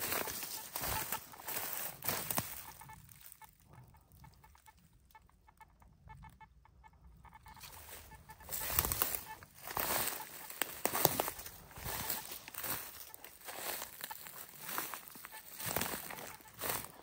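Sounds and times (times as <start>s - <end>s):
rustling and crunching: 0.0s - 5.3s, 7.4s - 17.0s
faint clucking bird calls: 0.0s - 17.0s.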